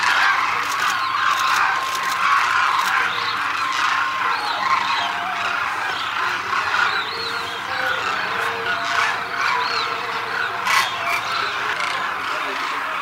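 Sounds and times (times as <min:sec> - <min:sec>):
flock of cranes calling: 0:00.0 - 0:13.0.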